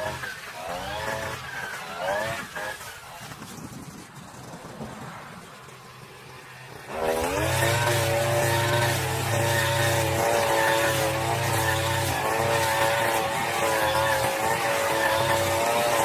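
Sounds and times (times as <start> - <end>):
brush cutter engine revving: 0.0 - 3.8, 4.4 - 16.0.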